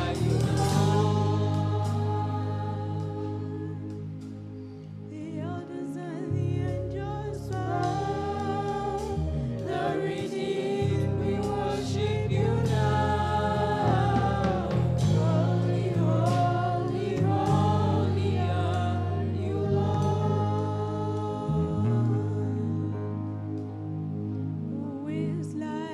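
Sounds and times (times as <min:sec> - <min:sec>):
group of voices singing gospel: 0:00.0 - 0:25.9
sustained keyboard accompaniment: 0:00.0 - 0:25.9.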